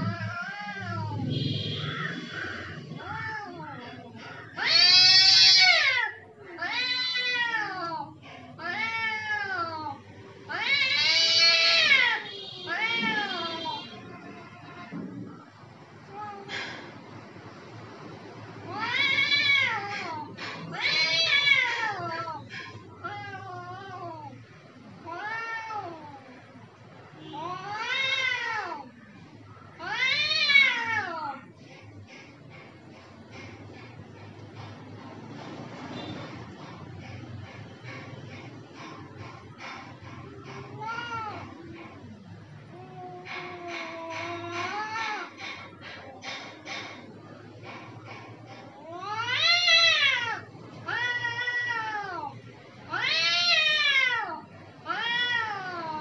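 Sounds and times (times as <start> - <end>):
cats yowling: 0.0 - 17.4, 18.1 - 35.2, 36.4 - 56.0.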